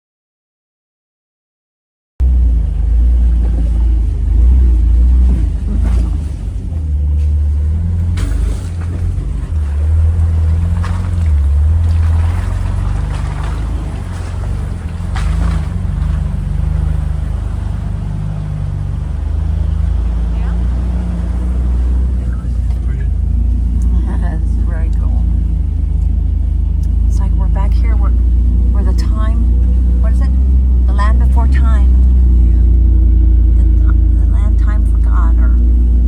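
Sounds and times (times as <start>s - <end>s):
engine rumbling at low revs: 2.2s - 36.0s.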